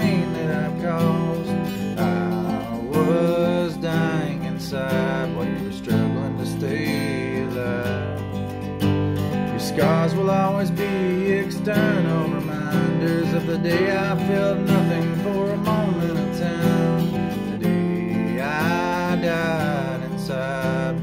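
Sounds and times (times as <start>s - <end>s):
acoustic guitar strumming: 0.0s - 21.0s
man singing: 0.0s - 21.0s.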